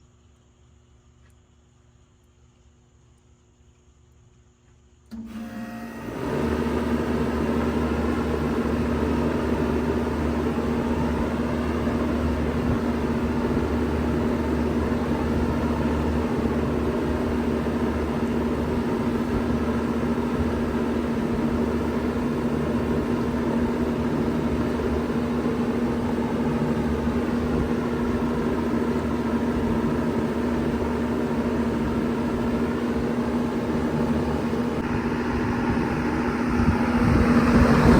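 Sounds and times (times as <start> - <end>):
heat pump humming: 5.0 - 37.9.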